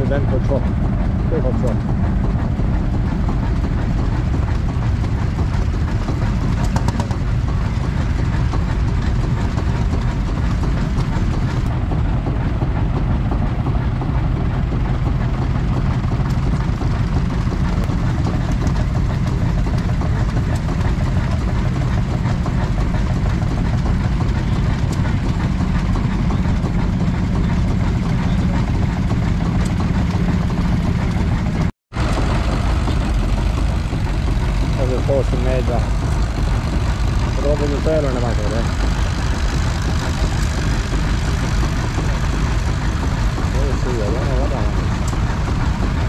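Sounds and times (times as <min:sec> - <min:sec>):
tractor and lorry engines rumbling: 0:00.0 - 0:46.0.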